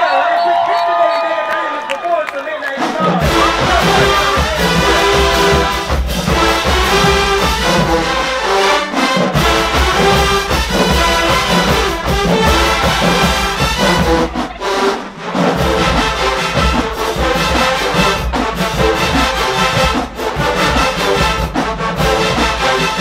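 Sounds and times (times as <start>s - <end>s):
brass section playing: 2.7s - 23.0s
bass and snare drums: 2.8s - 23.0s.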